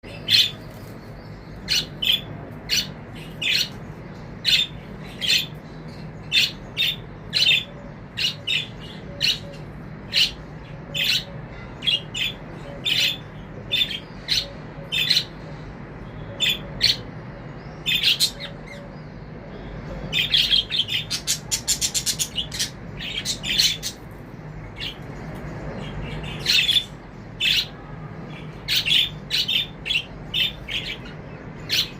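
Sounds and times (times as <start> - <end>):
budgerigars chirping: 0.1 - 15.4, 16.3 - 17.0, 17.8 - 18.8, 20.1 - 25.1, 25.8 - 27.7, 28.6 - 31.9.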